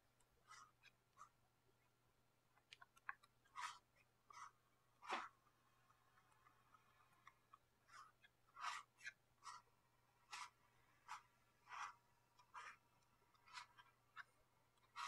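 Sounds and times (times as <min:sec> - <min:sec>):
soft scratching strokes: 0:00.0 - 0:02.0, 0:02.8 - 0:15.0.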